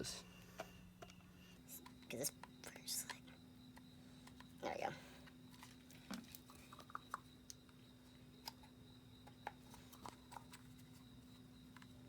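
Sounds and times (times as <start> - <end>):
steady faint hum: 0.0 - 12.0.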